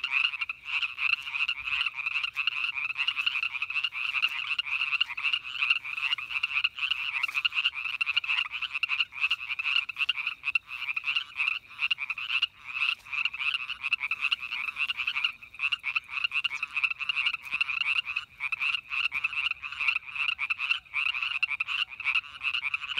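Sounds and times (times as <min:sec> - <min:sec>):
frogs calling in chorus: 0:00.0 - 0:22.9.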